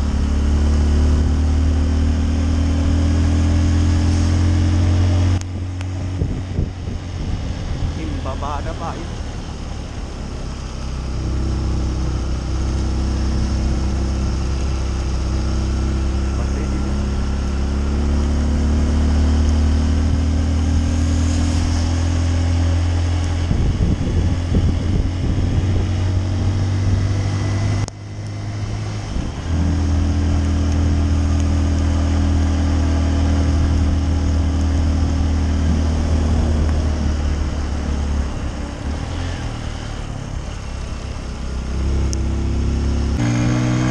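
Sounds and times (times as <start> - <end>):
motorcycle engine running: 0.0 - 21.3, 22.0 - 43.9.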